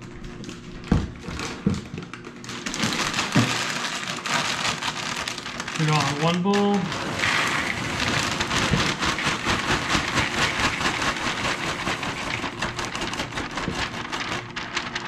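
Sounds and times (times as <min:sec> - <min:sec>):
plastic bag crinkling: 0:00.2 - 0:15.0
cereal pouring into a bowl: 0:02.6 - 0:15.0.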